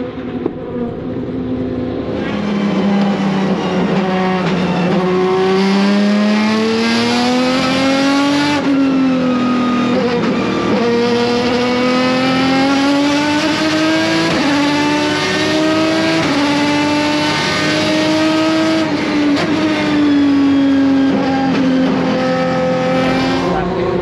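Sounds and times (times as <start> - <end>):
race car engine running hard: 0.0 - 24.0.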